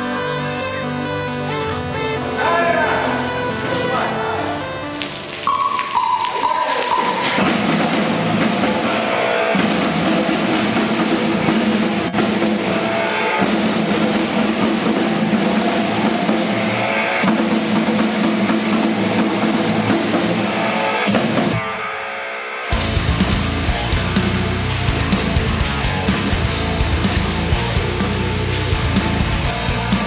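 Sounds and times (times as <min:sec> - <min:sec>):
drum kit: 0:00.0 - 0:21.8, 0:22.7 - 0:30.0
heavy rock band playing: 0:00.0 - 0:21.9, 0:22.7 - 0:30.0.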